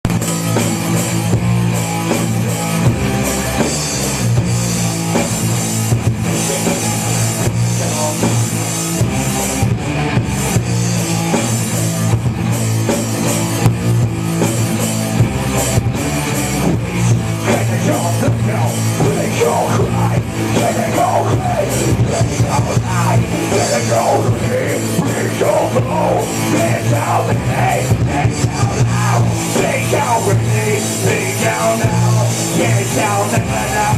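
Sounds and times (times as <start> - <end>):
drum kit: 0.0 - 33.9
electric guitar: 0.0 - 33.9.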